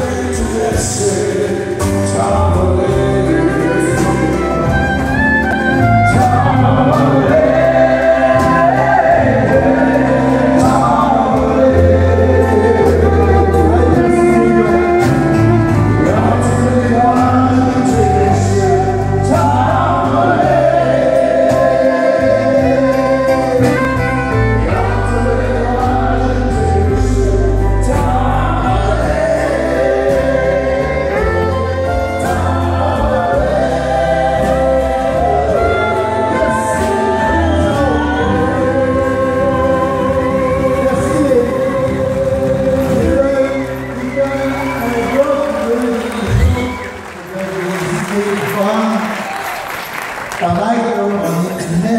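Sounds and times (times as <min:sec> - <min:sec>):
men singing into microphones: 0:00.0 - 0:49.6
acoustic guitars: 0:00.0 - 0:51.9.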